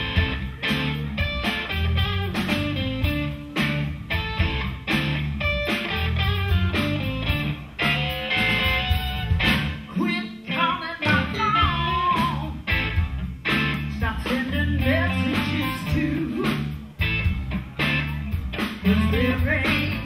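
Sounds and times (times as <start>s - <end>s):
blues band playing: 0.0s - 20.0s
electric guitar lead lines: 0.0s - 20.0s.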